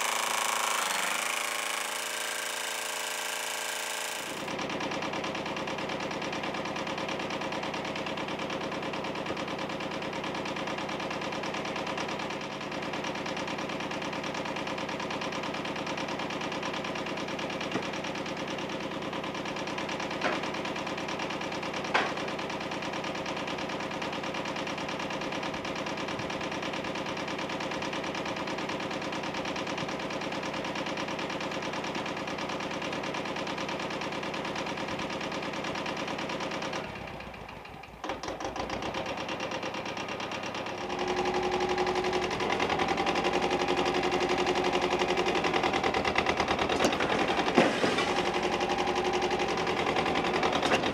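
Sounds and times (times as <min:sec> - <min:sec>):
diesel tractor engine idling: 0:04.4 - 0:50.9.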